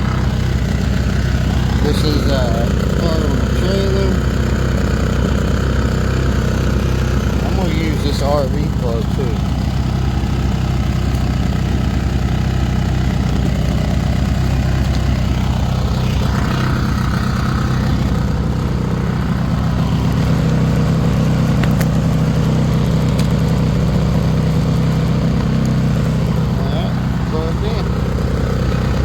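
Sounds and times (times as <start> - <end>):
generator engine running unevenly: 0.0 - 29.0.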